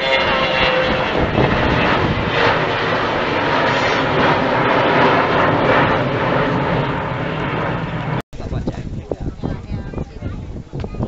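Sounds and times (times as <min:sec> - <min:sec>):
jet engines roaring overhead: 0:00.0 - 0:11.0.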